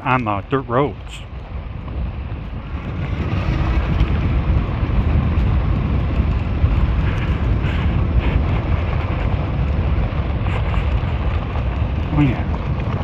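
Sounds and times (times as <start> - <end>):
tires rolling on dirt road: 0.0 - 13.0
wind buffeting microphone: 0.0 - 13.0.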